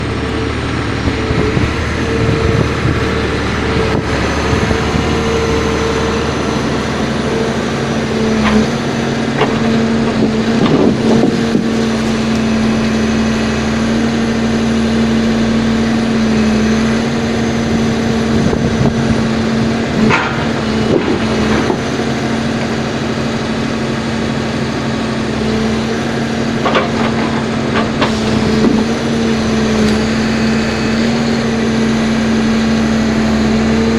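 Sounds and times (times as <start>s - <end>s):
machine whine: 0.0s - 22.1s, 27.4s - 33.9s
diesel machine running: 0.0s - 33.9s.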